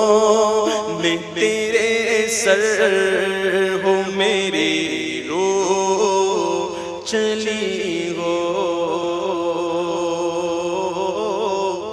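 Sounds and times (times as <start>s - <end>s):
person singing unaccompanied: 0.0s - 11.9s.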